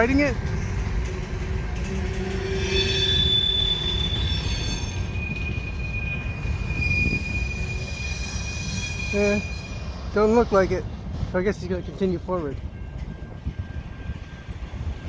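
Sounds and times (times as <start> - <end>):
rolling train rumble: 0.0 - 15.0
train wheels squealing on rail: 1.0 - 10.6, 11.5 - 15.0.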